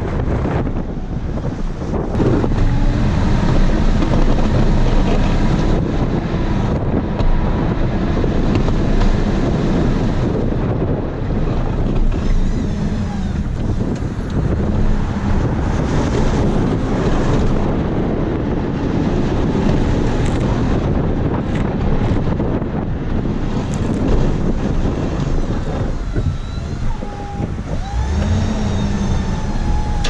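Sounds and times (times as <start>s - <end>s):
vehicle engine drone: 0.0s - 30.0s
wind buffeting microphone: 0.0s - 30.0s.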